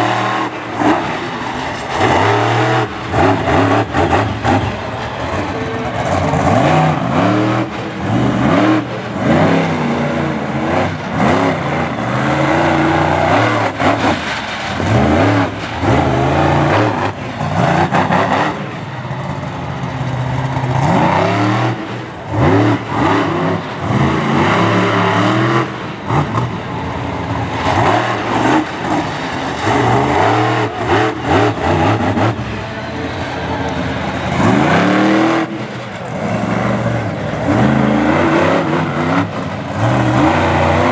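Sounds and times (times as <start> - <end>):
truck engine revving hard: 0.0 - 40.9.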